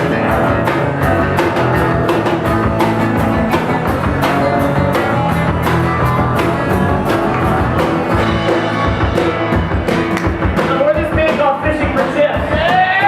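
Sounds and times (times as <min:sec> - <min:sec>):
acoustic guitars strummed hard: 0:00.0 - 0:13.0.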